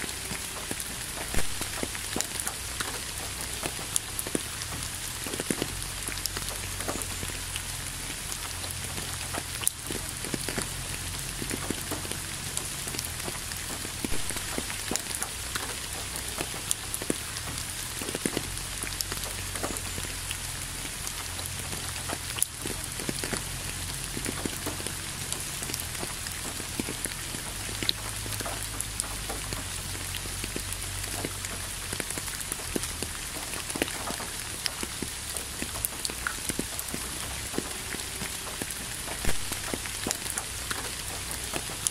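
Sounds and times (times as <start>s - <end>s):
raindrops tapping close by: 0.0s - 41.9s
steady rain hiss: 0.0s - 41.9s.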